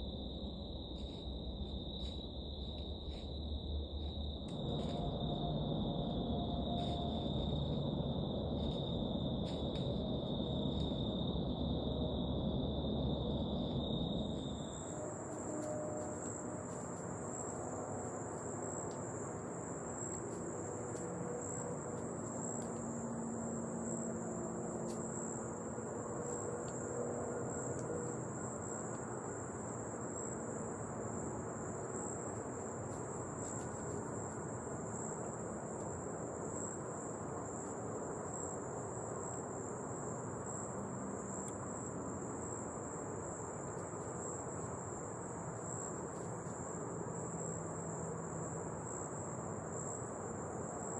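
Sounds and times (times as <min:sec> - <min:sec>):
high-pitched insect chorus: 0:00.0 - 0:50.9
soft low background rush: 0:00.0 - 0:50.9.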